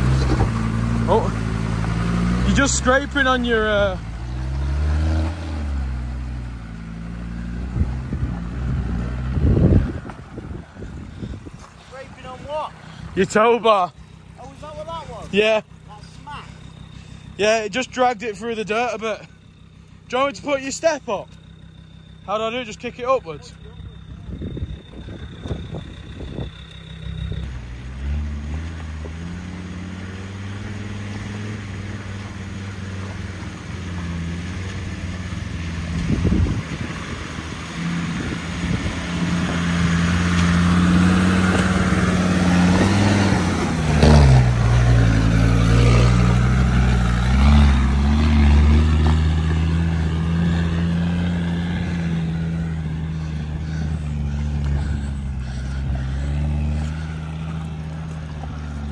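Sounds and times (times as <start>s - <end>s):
diesel engine running slowly: 0.0s - 58.9s.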